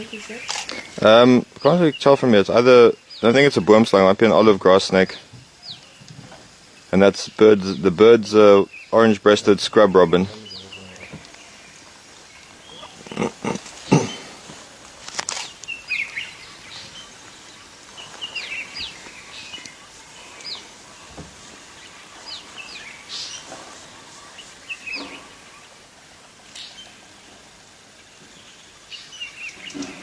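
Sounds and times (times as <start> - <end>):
small bird chirping: 0.0 - 25.8.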